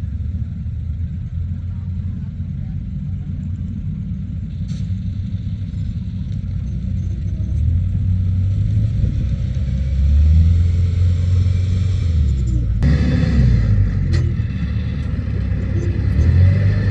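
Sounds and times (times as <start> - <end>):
harvester diesel engine rumbling: 0.0 - 16.9.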